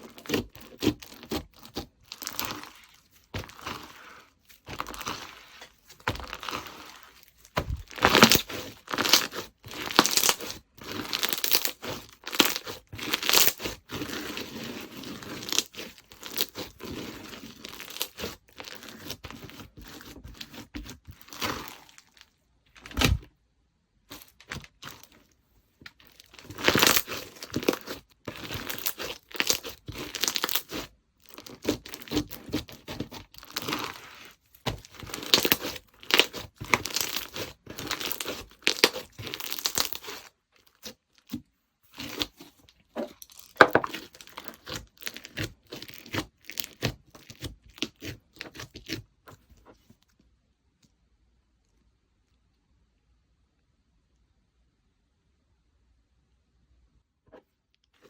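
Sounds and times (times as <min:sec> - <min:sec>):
slime squished by hand: 0:00.0 - 0:23.3, 0:25.9 - 0:49.7.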